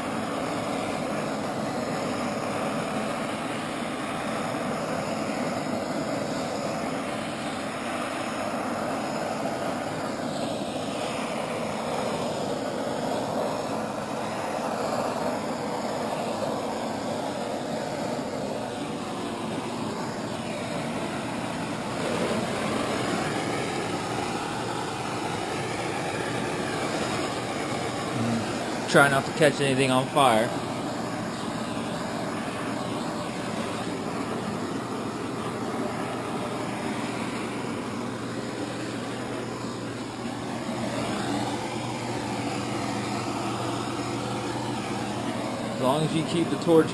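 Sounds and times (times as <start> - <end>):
propane torch flame hissing: 0.0 - 46.9.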